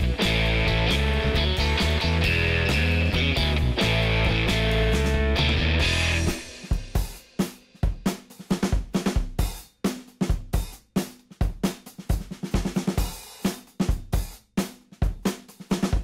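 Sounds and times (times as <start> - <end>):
drum kit playing: 0.0 - 16.0.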